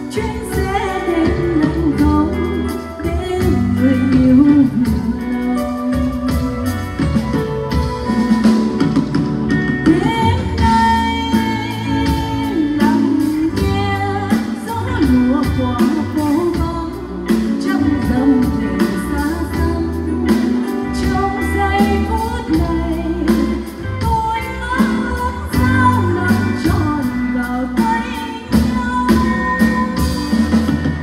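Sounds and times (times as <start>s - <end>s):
woman singing slow ballad: 0.0s - 7.2s, 9.7s - 30.9s
steady drum beat: 0.0s - 27.1s, 27.7s - 31.0s
bass: 0.0s - 31.0s
guitar: 0.0s - 31.0s.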